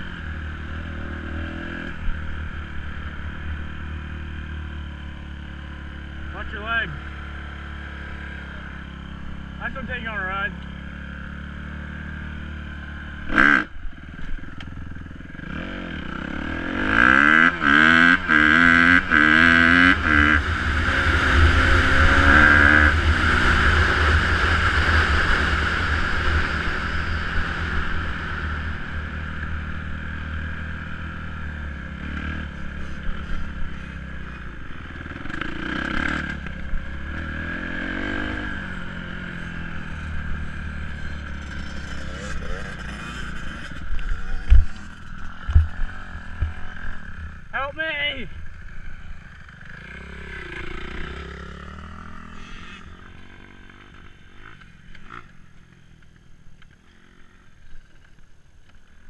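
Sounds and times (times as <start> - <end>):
dirt bike engine revving: 0.0 - 14.2, 15.1 - 57.6.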